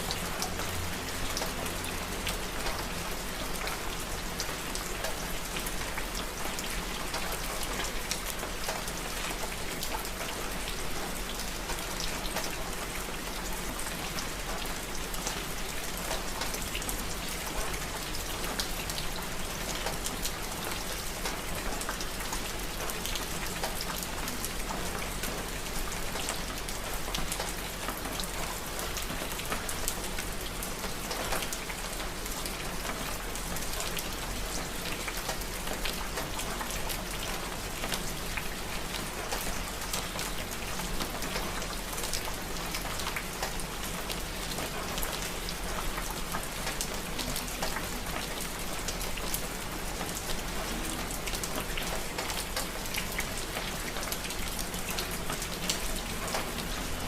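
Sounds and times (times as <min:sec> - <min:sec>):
rain drops pattering: 0:00.0 - 0:57.0.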